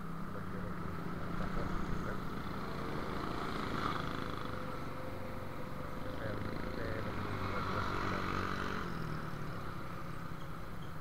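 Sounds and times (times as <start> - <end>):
motorcycle engine cruising: 0.0 - 11.0
other motorcycles in traffic: 0.0 - 11.0
road and wind noise: 0.0 - 11.0.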